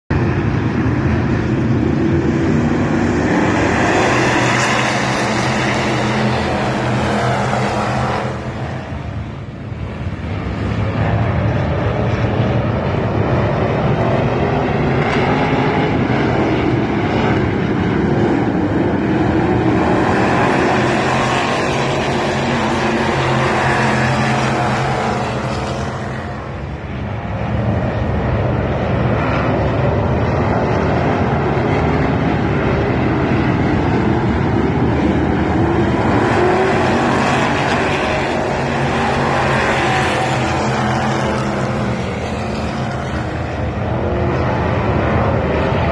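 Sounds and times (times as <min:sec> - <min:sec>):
race car engines: 0:00.1 - 0:45.9.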